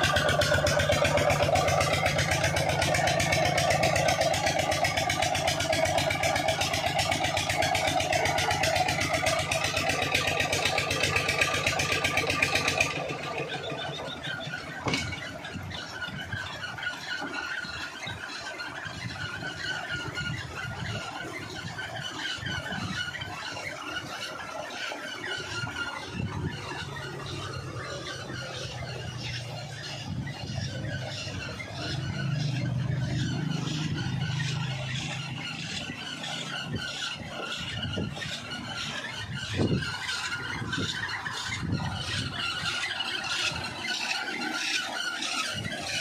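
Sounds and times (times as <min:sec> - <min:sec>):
diesel engine chugging: 0:00.0 - 0:46.0
pump high squeal: 0:00.0 - 0:46.0.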